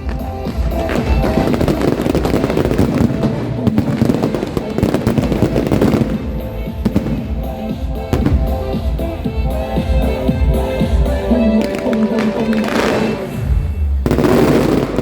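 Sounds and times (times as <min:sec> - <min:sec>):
background music: 0:00.0 - 0:15.0
fireworks crackling and popping: 0:00.0 - 0:15.0.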